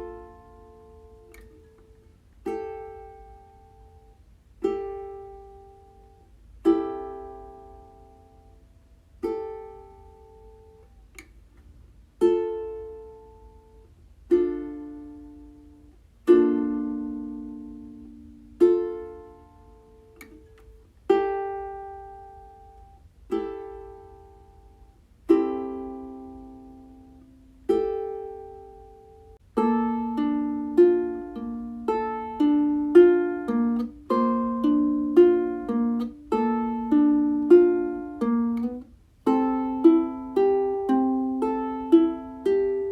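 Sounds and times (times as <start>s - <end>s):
ukulele playing: 0.0s - 42.9s.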